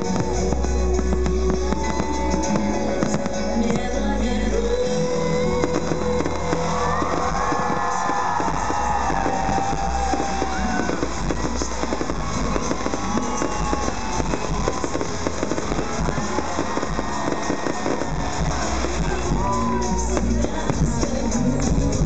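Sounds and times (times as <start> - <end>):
fireworks bursting and crackling: 0.0 - 22.0
loud concert music: 0.0 - 22.0.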